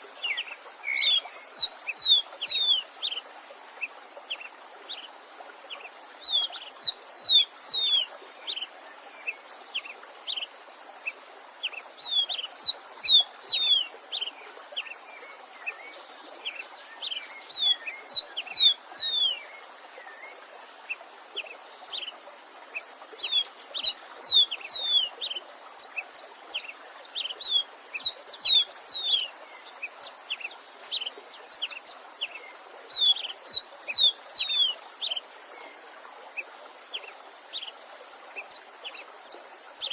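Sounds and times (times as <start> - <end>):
songbird singing: 0.0 - 39.9
stream running: 0.0 - 39.9.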